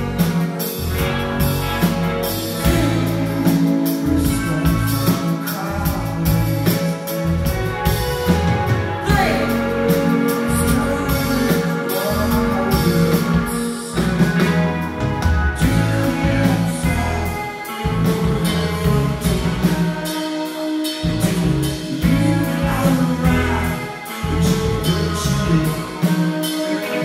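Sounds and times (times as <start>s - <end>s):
drum kit: 0.0s - 27.0s
guitars: 0.0s - 27.0s
person singing: 0.0s - 27.0s.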